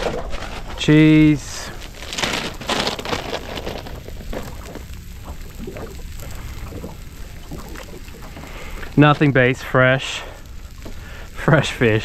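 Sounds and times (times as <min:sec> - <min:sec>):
plastic bag crinkling: 0:00.0 - 0:12.0
steady low rumble: 0:00.0 - 0:12.0.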